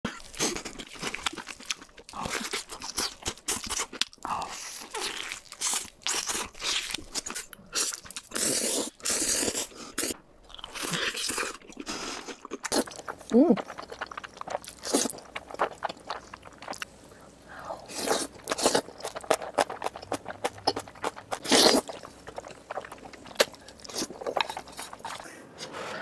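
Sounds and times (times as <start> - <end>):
chewing: 0.1 - 25.3.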